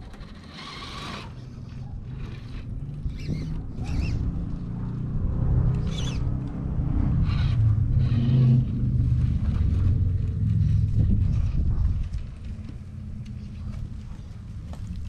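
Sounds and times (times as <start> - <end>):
tires scraping on rock: 0.0 - 5.0, 5.7 - 15.0
electric motor and drivetrain whining: 0.0 - 15.0.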